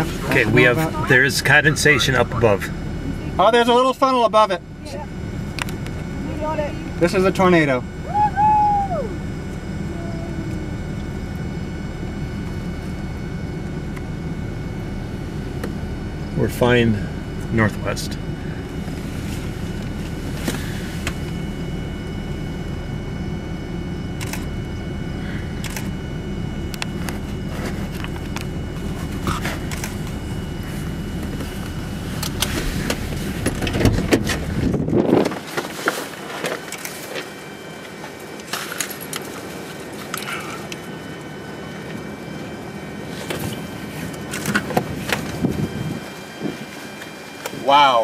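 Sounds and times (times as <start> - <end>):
vehicle engine rumbling: 0.0 - 48.0.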